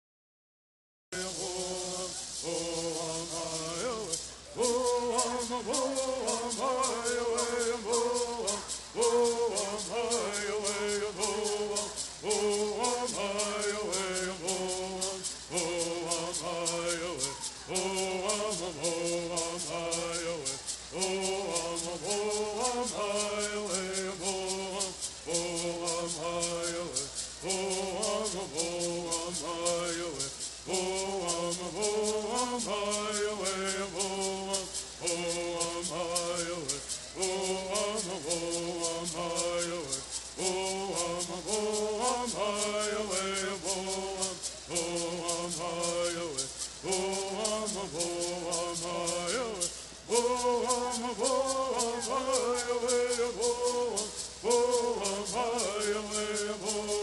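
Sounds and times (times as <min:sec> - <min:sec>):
hand rattles shaking: 0:01.2 - 0:57.0
men singing in unison: 0:01.2 - 0:57.0.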